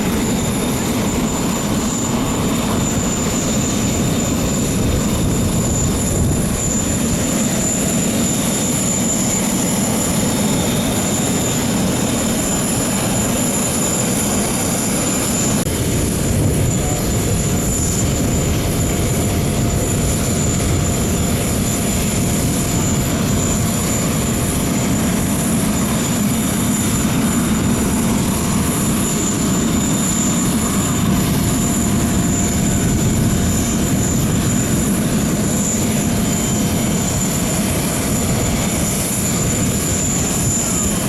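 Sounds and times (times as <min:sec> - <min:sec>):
aircraft noise: 0:00.0 - 0:41.0
high steady whine: 0:00.0 - 0:41.0.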